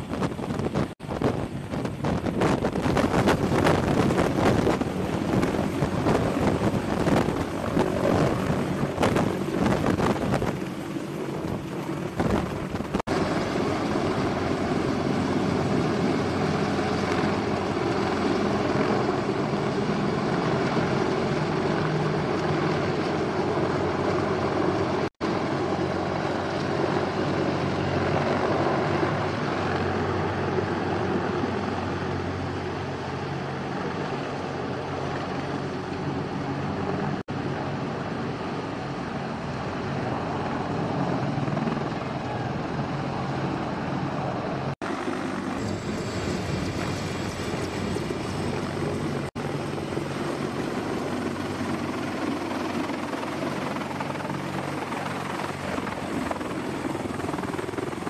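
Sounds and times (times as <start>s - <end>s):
helicopter rotors and turbines: 0.0s - 58.0s
rotor wash wind on microphone: 0.0s - 58.0s.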